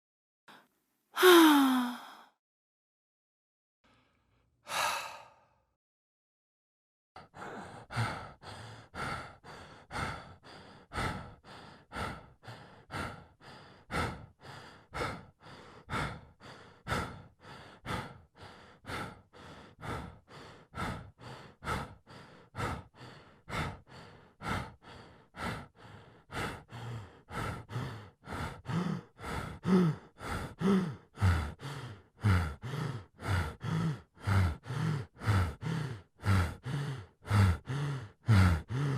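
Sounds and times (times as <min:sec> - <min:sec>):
person panting heavily: 0:01.2 - 0:02.3, 0:03.9 - 0:05.6, 0:07.2 - 0:38.9.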